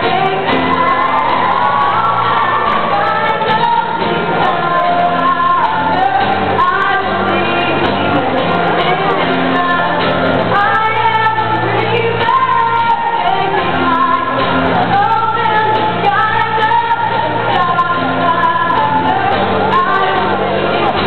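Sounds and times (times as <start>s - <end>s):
guitar accompaniment: 0.0s - 21.0s
person singing pop song live: 0.0s - 21.0s.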